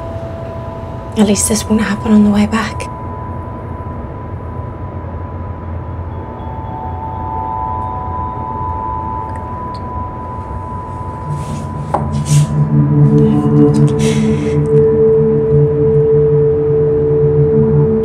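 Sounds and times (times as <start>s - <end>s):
ambient music with bell-like notes: 0.0s - 18.0s
ferry engines rumbling: 0.0s - 18.0s.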